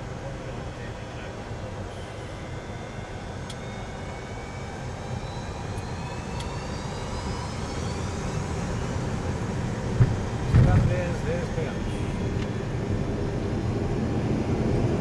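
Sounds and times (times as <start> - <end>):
jet engines spooling up: 0.0 - 15.0.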